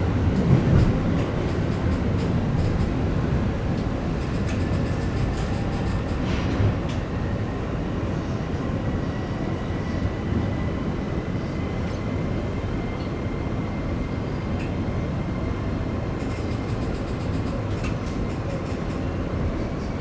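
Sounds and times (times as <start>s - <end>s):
electric train rumbling on rails: 0.0s - 20.0s.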